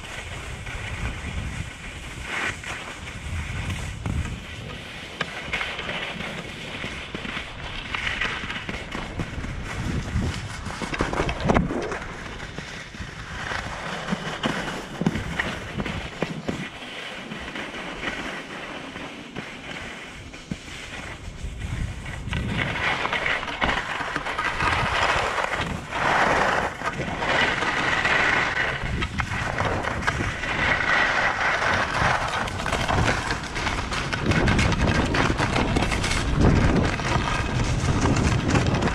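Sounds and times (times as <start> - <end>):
wind buffeting microphone: 0.0 - 16.8, 20.1 - 38.9
skis scraping over packed snow: 0.0 - 38.9.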